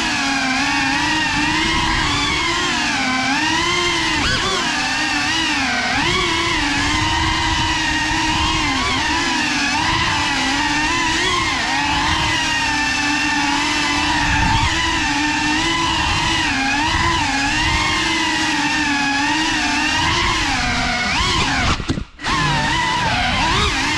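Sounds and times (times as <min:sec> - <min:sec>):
drone propellers whining: 0:00.0 - 0:23.9.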